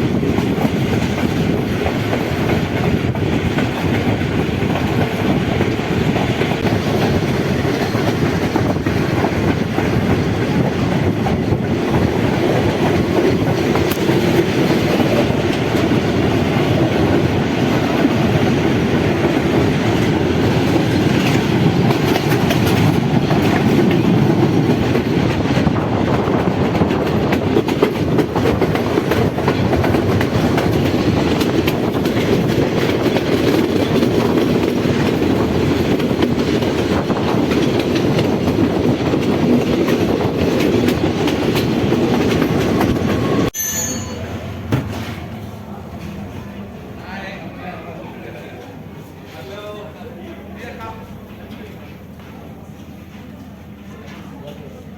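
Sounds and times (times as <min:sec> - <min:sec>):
wheels clicking on rails: 0:00.0 - 0:46.4
train rumbling on track: 0:00.0 - 0:54.9.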